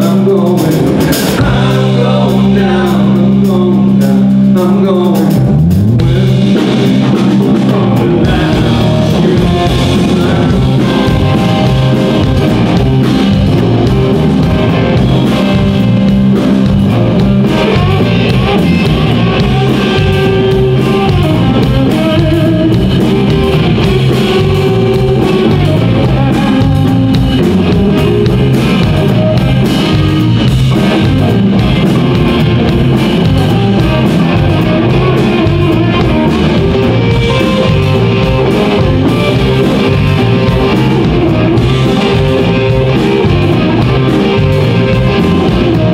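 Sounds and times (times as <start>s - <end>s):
bass guitar: 0.0s - 45.9s
drum kit beat: 0.0s - 45.9s
electric guitar: 0.0s - 45.9s.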